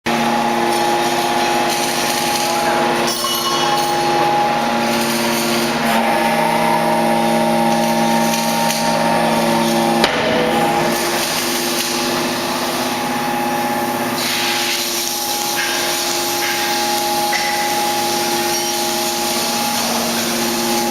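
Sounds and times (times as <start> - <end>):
baler machine hum: 0.1 - 20.9
machine whining tones: 0.1 - 20.9.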